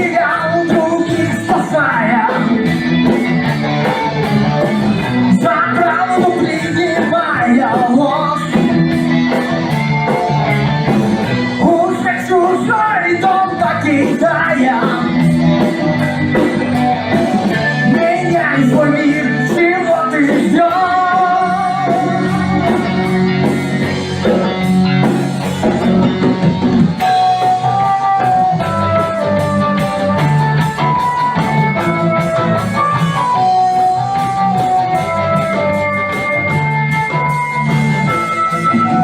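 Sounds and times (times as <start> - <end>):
melodic lead line: 0.0 - 39.0
rock band playing: 0.0 - 39.0.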